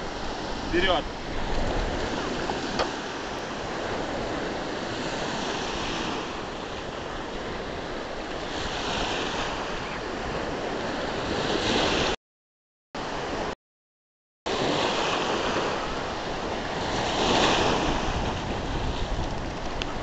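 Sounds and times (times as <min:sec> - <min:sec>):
sea surf washing ashore: 0:00.0 - 0:12.2, 0:13.0 - 0:13.6, 0:14.5 - 0:20.0.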